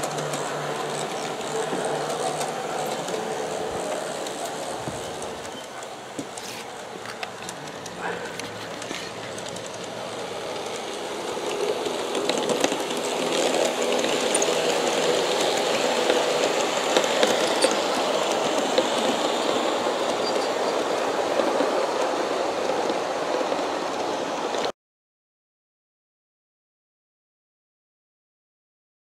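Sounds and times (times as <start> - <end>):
model train wheels rumbling on rails: 0.0 - 24.7.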